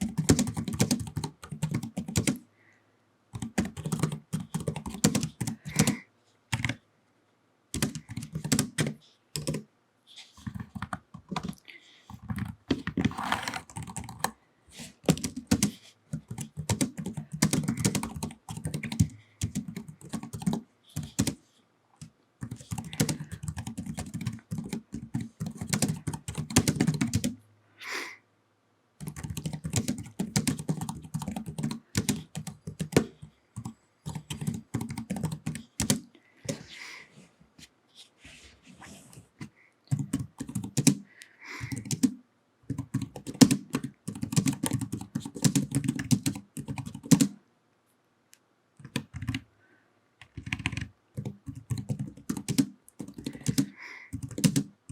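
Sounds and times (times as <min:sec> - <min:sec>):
keyboard typing: 0:00.0 - 0:02.5, 0:03.3 - 0:06.8, 0:07.7 - 0:09.7, 0:10.4 - 0:14.4, 0:15.0 - 0:21.4, 0:22.0 - 0:27.4, 0:29.0 - 0:36.6, 0:39.9 - 0:47.4, 0:48.8 - 0:49.4, 0:50.2 - 0:54.9.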